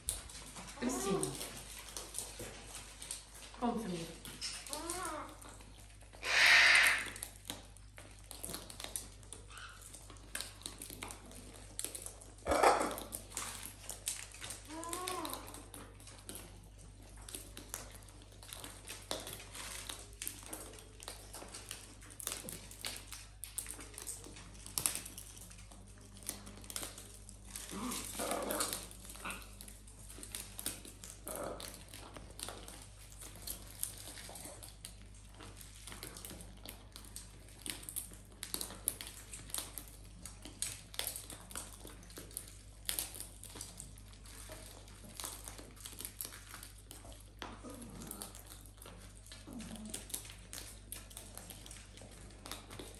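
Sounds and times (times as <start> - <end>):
beaks cracking seed and pecking: 0.0 - 52.9.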